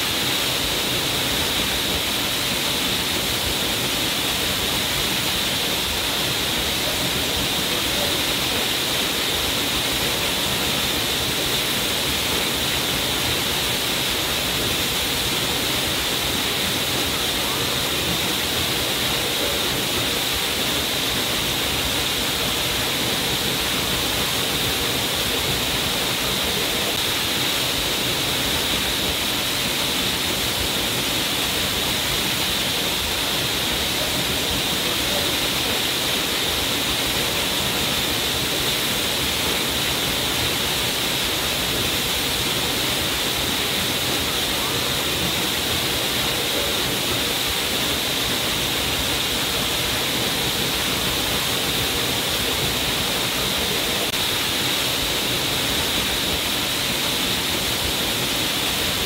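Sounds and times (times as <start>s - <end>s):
waterfall splashing onto rocks: 0.0s - 59.0s.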